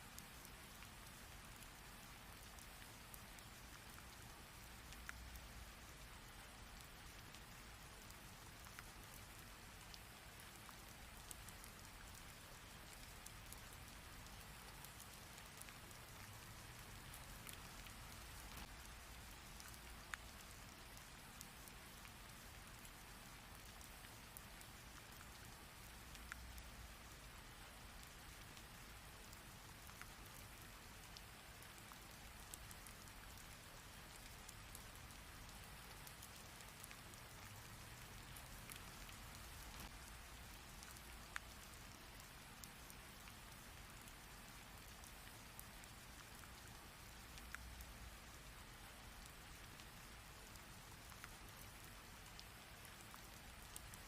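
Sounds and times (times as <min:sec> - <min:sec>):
single raindrops ticking: 0:00.1 - 0:54.0.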